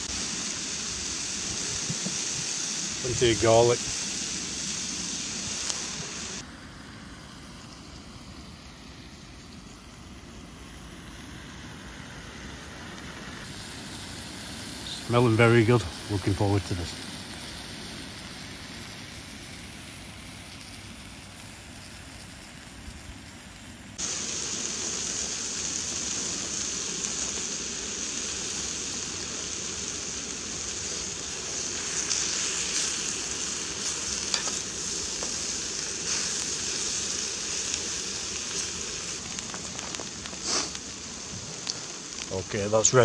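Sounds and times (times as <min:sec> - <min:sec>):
crackles: 0:00.0 - 0:43.0
vegetables sizzling in a frying pan: 0:00.0 - 0:43.0.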